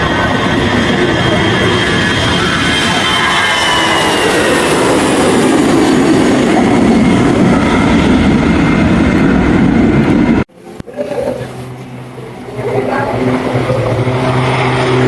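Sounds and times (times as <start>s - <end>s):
aircraft engines roaring: 0.0s - 15.0s.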